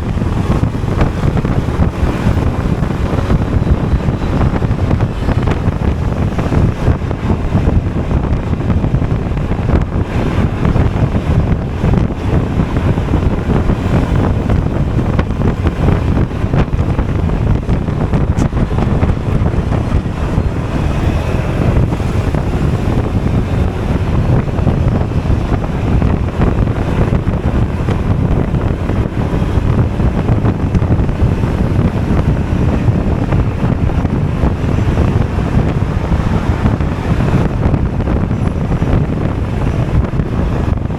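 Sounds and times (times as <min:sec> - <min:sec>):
road noise: 0:00.0 - 0:40.9
scooter engine: 0:00.0 - 0:40.9
wind rushing over microphone: 0:00.0 - 0:40.9.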